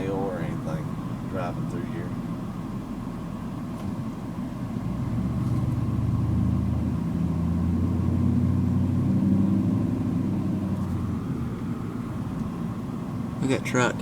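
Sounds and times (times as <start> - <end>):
car engine running: 0.0 - 14.0
road noise: 0.0 - 14.0.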